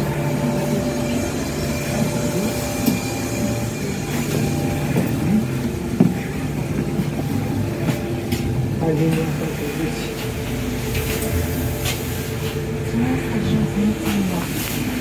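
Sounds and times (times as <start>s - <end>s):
trolleybus electric hum: 0.0s - 15.0s.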